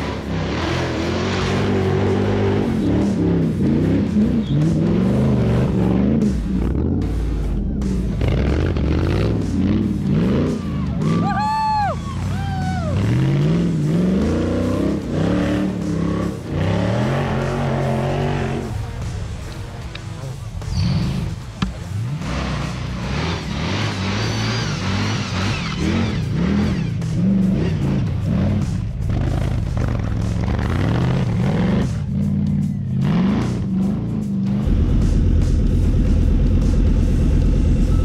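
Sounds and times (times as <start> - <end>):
engine revving hard: 0.0 - 11.2, 12.9 - 19.0, 20.3 - 37.8.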